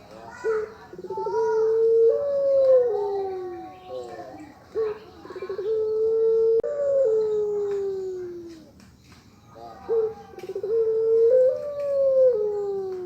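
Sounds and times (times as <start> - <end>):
turtle dove cooing: 0.0 - 8.8, 9.4 - 13.0.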